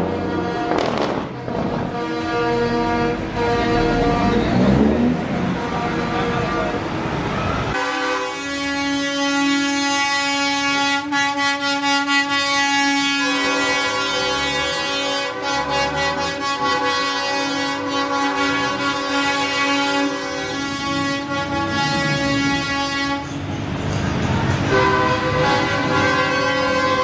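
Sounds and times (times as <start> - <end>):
truck air horns chord: 0.0 - 7.0, 7.6 - 27.0
street and engine noise: 0.0 - 27.0.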